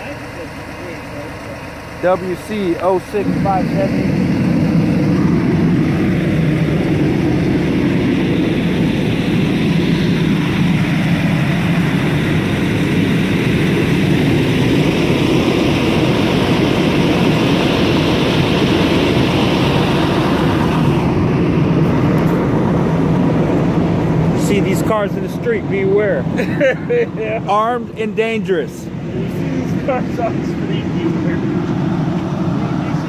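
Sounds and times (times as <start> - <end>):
car road noise rumble: 0.0 - 33.0.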